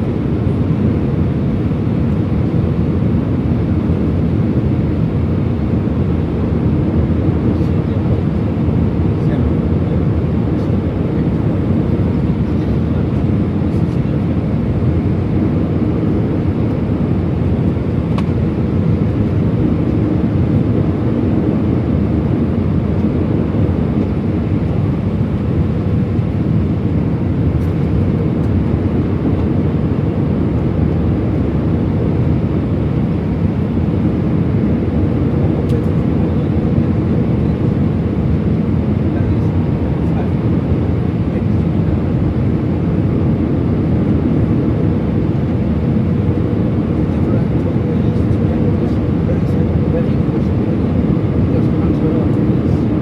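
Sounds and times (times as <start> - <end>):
jet airliner cabin noise: 0.0 - 53.0.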